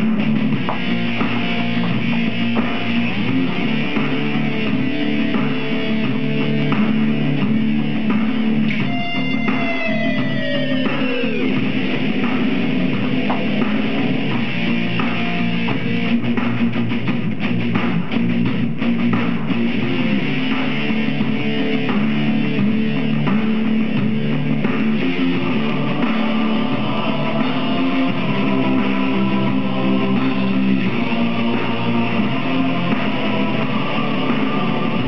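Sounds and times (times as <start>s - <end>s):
drum kit: 0.0s - 35.0s
electric guitar: 0.0s - 35.0s.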